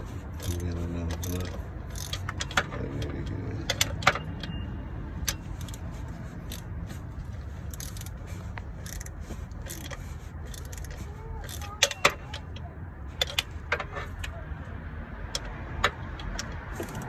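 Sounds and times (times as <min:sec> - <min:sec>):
metal tools clinking and scraping: 0:00.0 - 0:14.4, 0:15.4 - 0:17.0.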